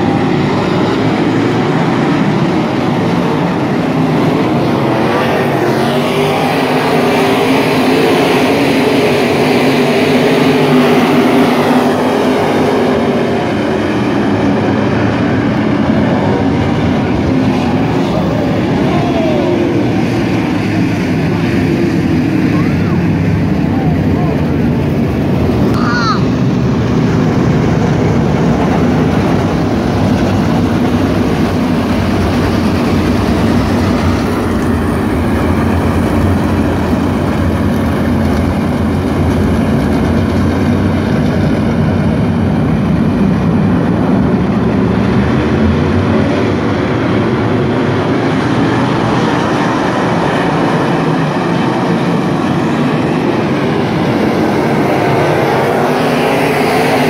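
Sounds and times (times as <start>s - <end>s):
high engine whine: 0.0s - 57.0s
race car engines running: 0.0s - 57.0s.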